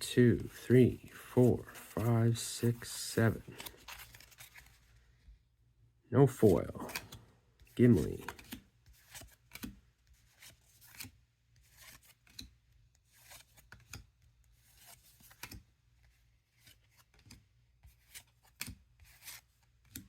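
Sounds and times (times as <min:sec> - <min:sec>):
playing cards rustling: 0:00.3 - 0:05.2, 0:06.3 - 0:20.0.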